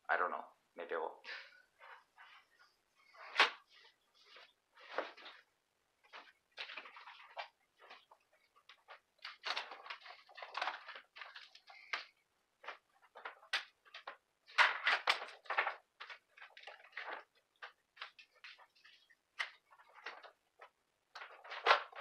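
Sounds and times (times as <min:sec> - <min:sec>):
cables rustling and scraping: 0:01.7 - 0:22.0.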